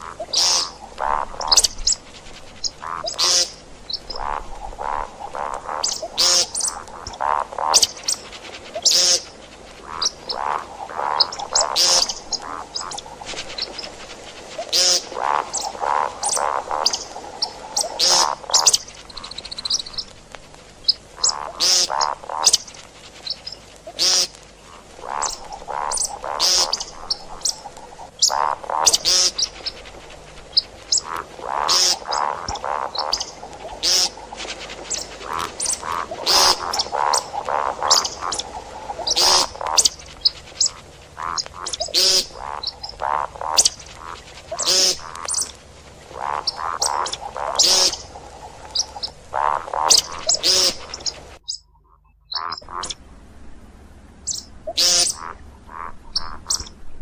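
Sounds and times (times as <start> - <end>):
bird calls: 0.0 - 53.1, 54.2 - 57.0.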